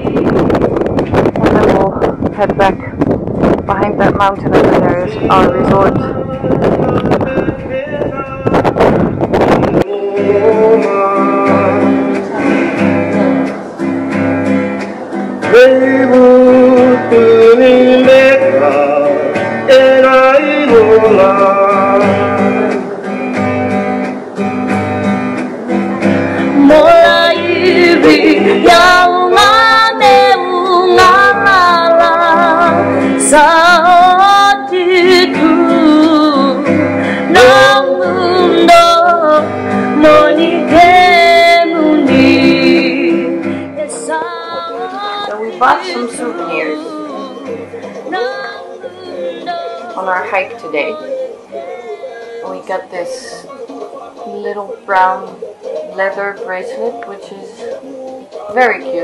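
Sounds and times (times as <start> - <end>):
song with singing and guitar: 0.0 - 59.0.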